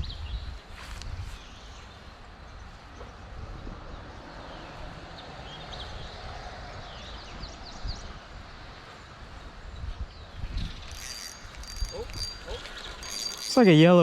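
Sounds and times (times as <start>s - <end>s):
wind rumble on microphone: 0.0s - 13.4s.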